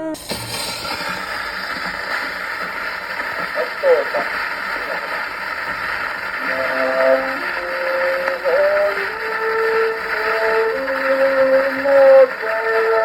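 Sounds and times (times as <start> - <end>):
gramophone surface hiss: 0.0 - 13.0
long held instrumental notes: 1.8 - 13.0.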